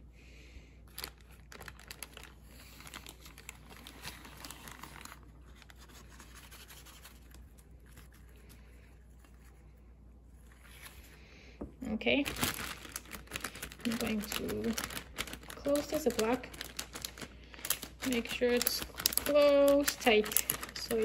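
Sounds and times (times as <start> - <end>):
plastic bag crinkling: 0.9 - 9.5, 11.8 - 21.0.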